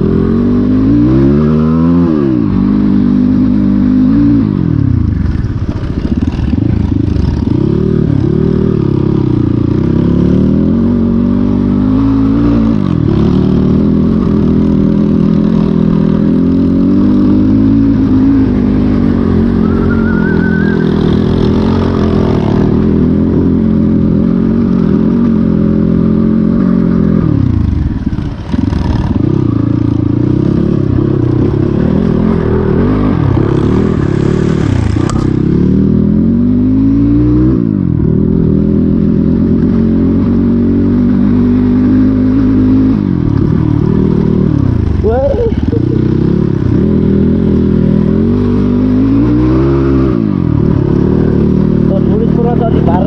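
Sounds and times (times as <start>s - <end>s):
off-road motorcycle engine revving: 0.0s - 53.0s.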